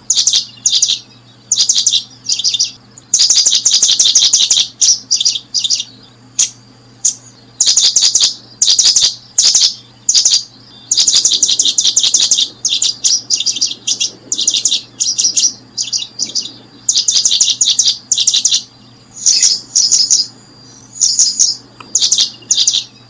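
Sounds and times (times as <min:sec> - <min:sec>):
faint low hum: 0:00.0 - 0:23.0
small birds chirping: 0:00.0 - 0:23.0.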